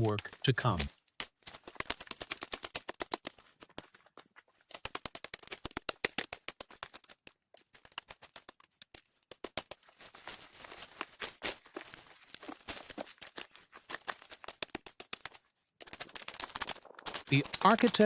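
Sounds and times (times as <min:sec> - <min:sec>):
stones clicking and scraping: 0:00.0 - 0:18.0.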